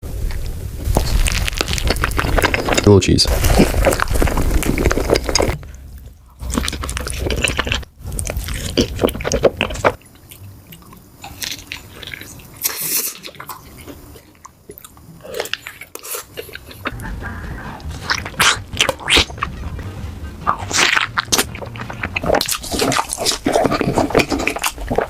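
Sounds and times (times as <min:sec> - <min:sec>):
person chewing food: 0:00.3 - 0:25.0.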